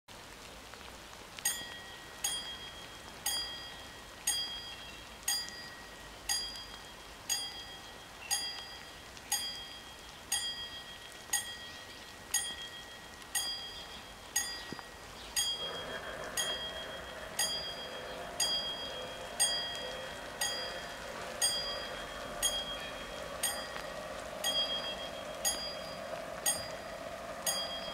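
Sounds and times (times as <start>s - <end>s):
rain patter: 0.1s - 27.9s
level crossing warning bells: 1.4s - 27.9s
steady hum with held tones: 1.6s - 27.9s.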